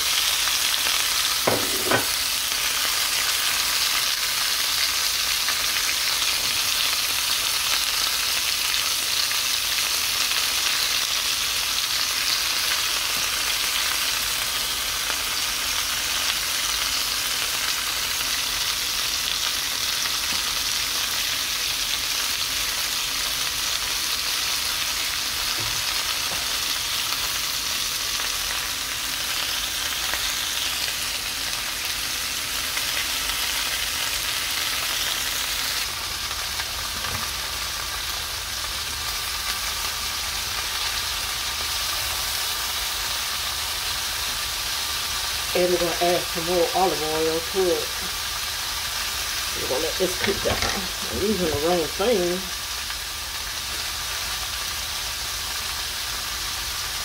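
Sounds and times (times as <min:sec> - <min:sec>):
vegetables sizzling in oil: 0:00.0 - 0:57.0.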